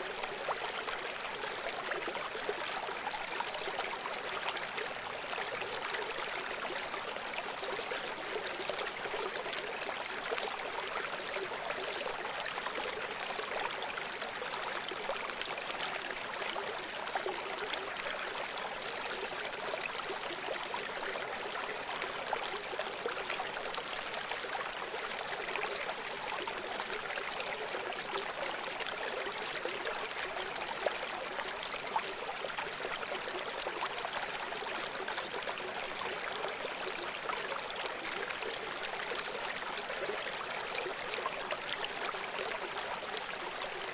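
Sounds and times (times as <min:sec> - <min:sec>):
stream water flowing over stones: 0:00.0 - 0:43.9.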